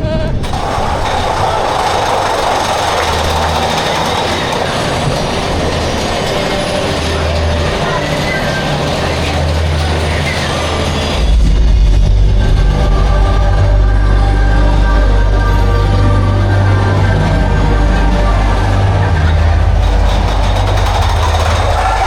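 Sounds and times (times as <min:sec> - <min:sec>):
roller coaster wheels rumbling on rails: 0:00.0 - 0:22.0.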